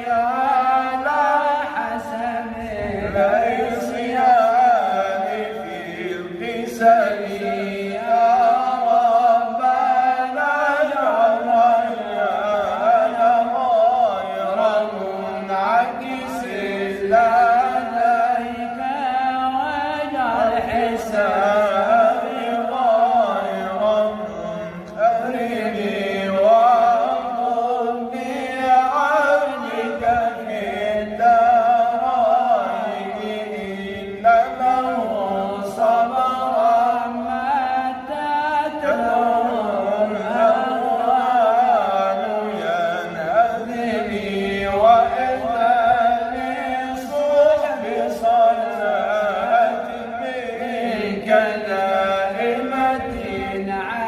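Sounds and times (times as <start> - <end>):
man chanting: 0.0 - 54.0.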